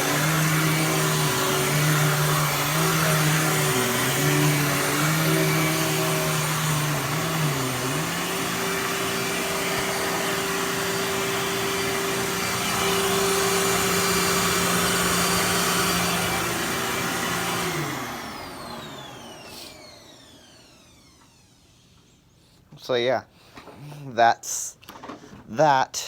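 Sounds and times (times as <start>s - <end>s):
motor winding down whine: 0.0s - 22.2s
vacuum cleaner running: 0.0s - 22.2s.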